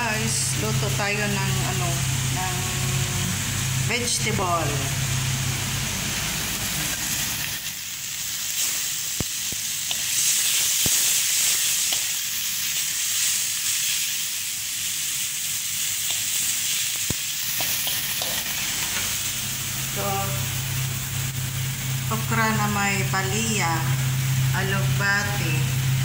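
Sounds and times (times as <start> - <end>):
garlic and onion sizzling in oil: 0.0 - 26.0.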